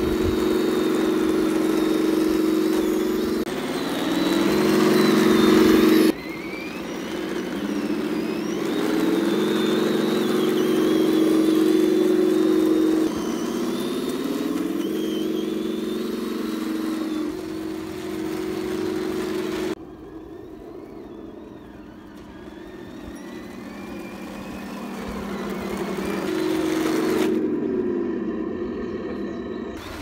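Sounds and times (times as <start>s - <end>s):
simulated tank engine sound: 0.0s - 30.0s
toy motor whine: 0.0s - 30.0s.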